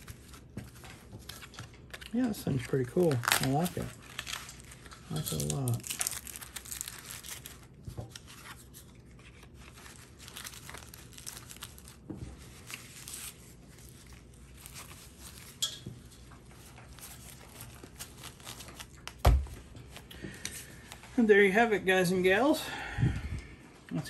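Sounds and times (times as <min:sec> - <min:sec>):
rustling of wallet being folded: 0:00.0 - 0:21.2.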